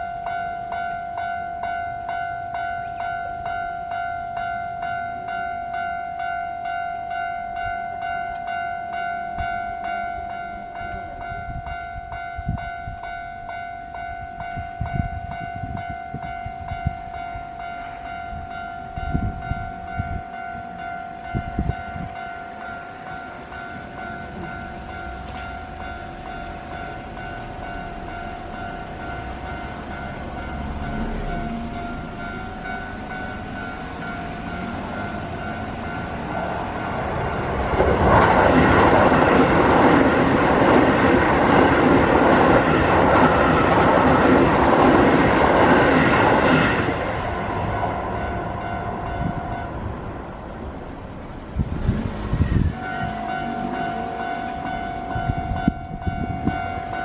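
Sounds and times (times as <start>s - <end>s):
level crossing warning bell ringing: 0.0s - 51.6s, 52.6s - 57.0s
train wheels rumbling over rails: 6.7s - 57.0s.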